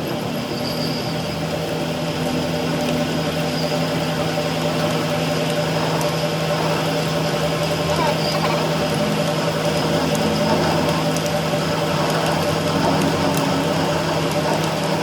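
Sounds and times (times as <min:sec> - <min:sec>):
machine motor humming: 0:01.3 - 0:15.0.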